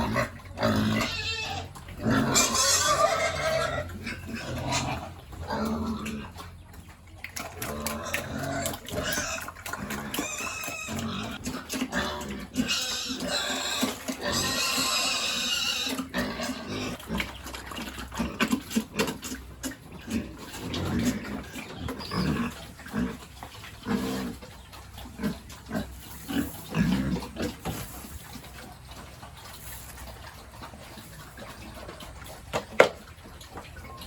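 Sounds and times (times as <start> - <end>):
high-pitched pig squeal: 0.0 - 6.5, 7.3 - 32.3
pigs grunting: 0.0 - 34.0.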